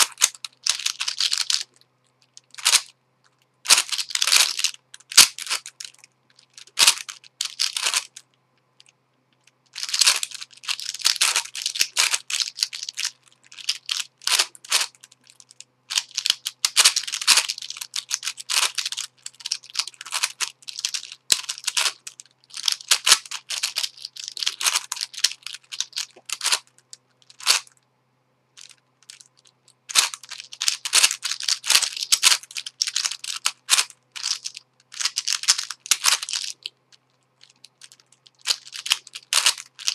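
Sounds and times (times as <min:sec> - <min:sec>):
puzzle cube clicking turns: 0:00.0 - 0:02.9, 0:03.7 - 0:27.8, 0:28.6 - 0:36.8, 0:37.4 - 0:39.9.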